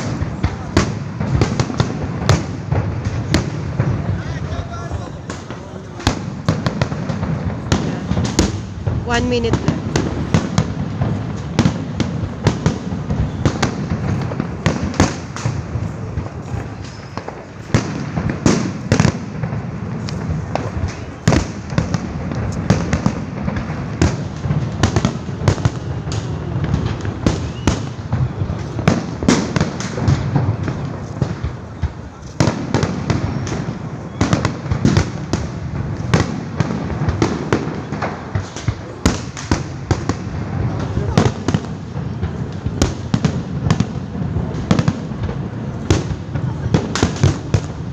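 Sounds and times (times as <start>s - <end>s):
distant explosions rumbling: 0.0s - 47.9s
firecrackers banging: 0.0s - 47.9s.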